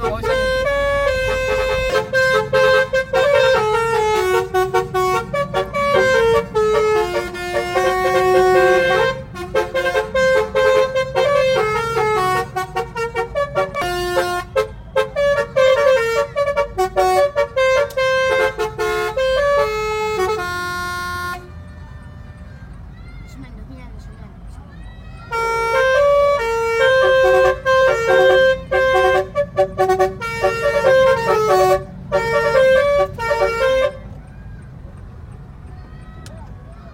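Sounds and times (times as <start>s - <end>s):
musical car horn tune: 0.0s - 21.6s, 25.3s - 34.2s.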